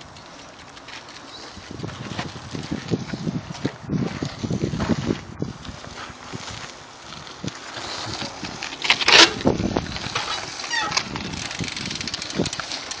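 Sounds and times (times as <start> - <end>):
bike tyres crunching on gravel: 0.0 - 13.0
rush of passing tyres: 0.0 - 13.0.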